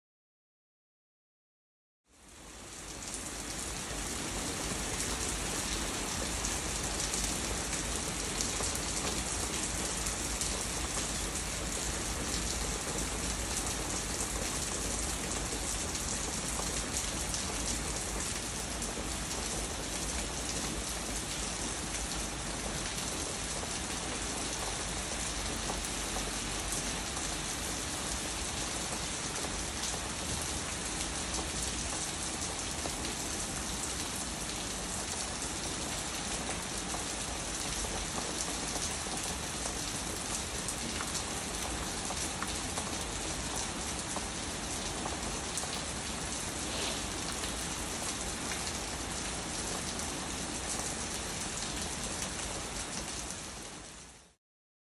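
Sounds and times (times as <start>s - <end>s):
rain pouring: 2.1s - 54.4s.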